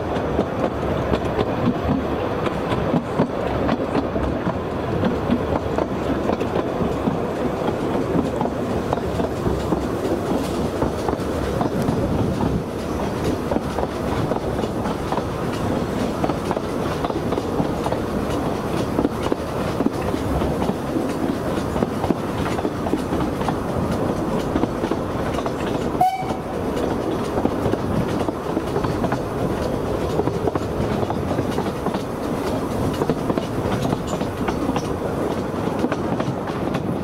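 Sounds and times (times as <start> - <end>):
train rumbling and rattling: 0.0 - 37.0
wheels clicking over rail joints: 0.0 - 37.0.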